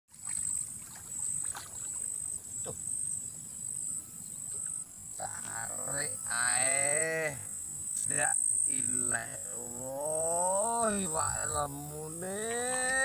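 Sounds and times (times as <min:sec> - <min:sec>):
insects chirring: 0:00.1 - 0:13.0.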